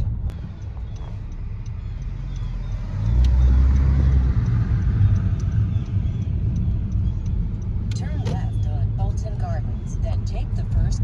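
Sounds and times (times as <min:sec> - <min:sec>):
road traffic rumble: 0:00.0 - 0:11.0
vehicle passing: 0:00.0 - 0:11.0.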